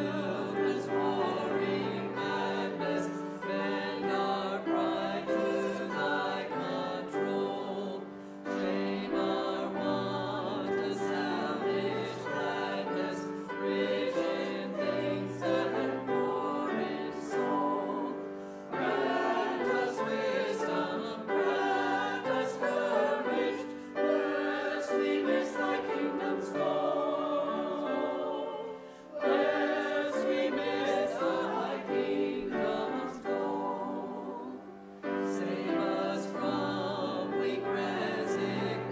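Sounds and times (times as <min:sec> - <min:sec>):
congregation singing a hymn: 0:00.0 - 0:38.9
keyboard accompaniment: 0:00.0 - 0:38.9.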